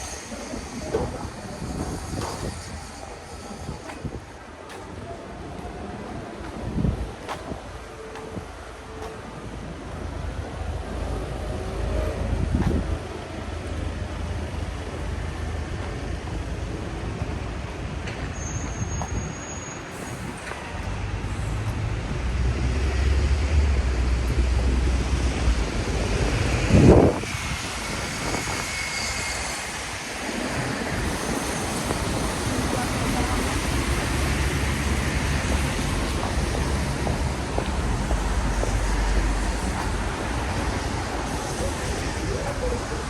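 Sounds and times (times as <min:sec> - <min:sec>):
vehicles passing on wet street: 0:00.0 - 0:43.0.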